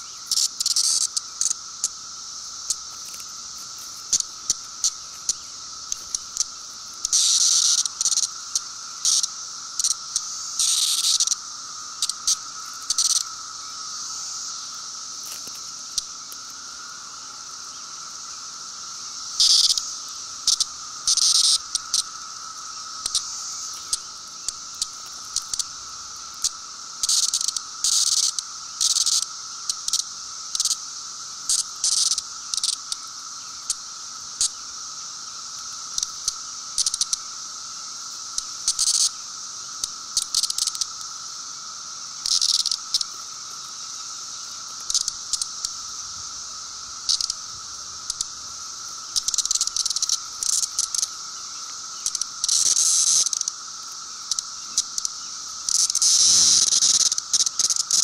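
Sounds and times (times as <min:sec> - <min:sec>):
cicada buzzing: 0:00.0 - 0:58.0.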